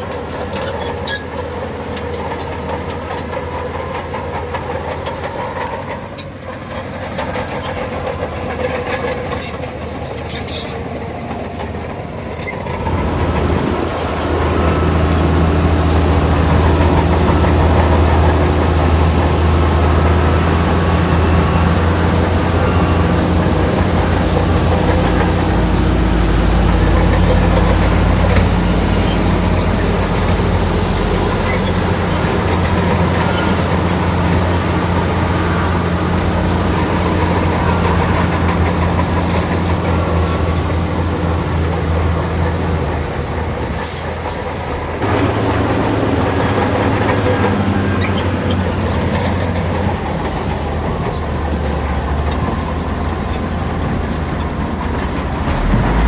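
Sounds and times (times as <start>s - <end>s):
diesel machinery engine under load: 0.0s - 56.0s.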